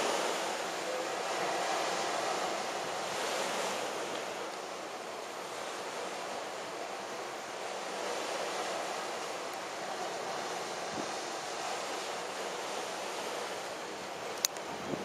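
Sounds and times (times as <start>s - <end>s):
small waves breaking on sand: 0.0s - 15.0s.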